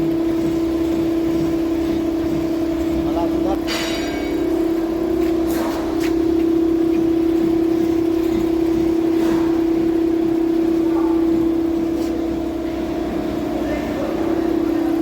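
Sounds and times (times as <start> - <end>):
suspension knocking and creaking: 0.0 - 13.5.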